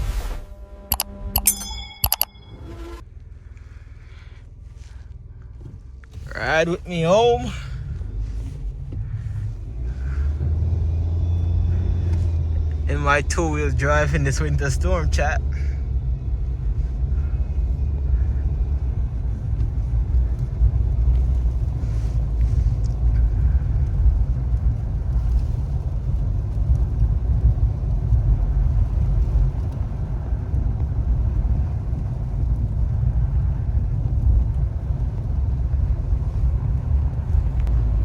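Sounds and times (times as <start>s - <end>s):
car driving rumble from inside: 3.0s - 38.0s.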